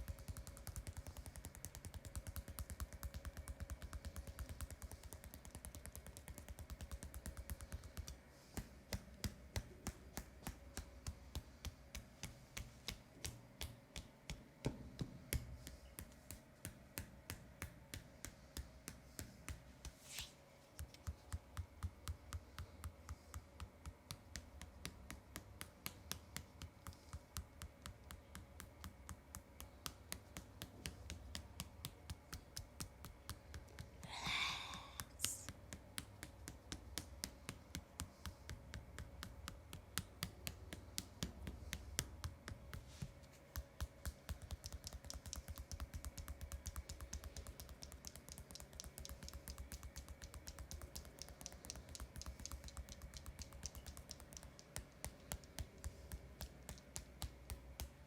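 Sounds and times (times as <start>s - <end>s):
hands tapping a leg: 0.0s - 58.0s.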